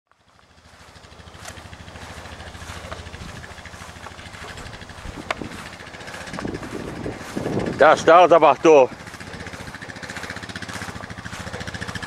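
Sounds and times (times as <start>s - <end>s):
atv engine idling: 0.1s - 12.0s.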